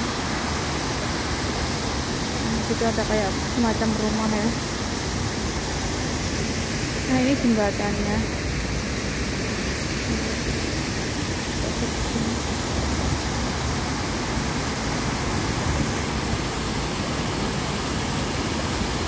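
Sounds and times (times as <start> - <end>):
waterfall pouring into pond: 0.0 - 19.0.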